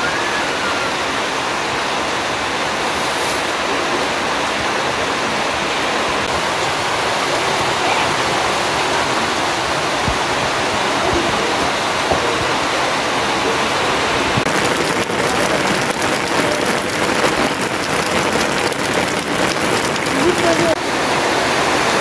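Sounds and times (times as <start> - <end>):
dense patter of raindrops: 0.0 - 22.0
steady rain: 0.0 - 22.0.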